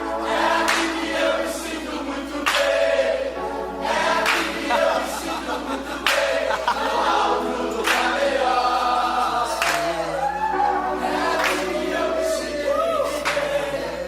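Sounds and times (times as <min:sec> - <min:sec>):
gospel choir singing: 0:00.0 - 0:14.0
music: 0:00.0 - 0:14.0.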